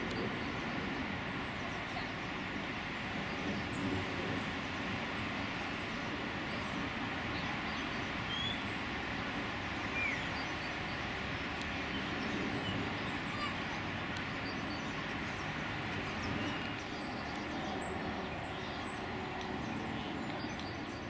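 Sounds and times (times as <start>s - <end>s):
outdoor rushing hum: 0.0s - 21.0s.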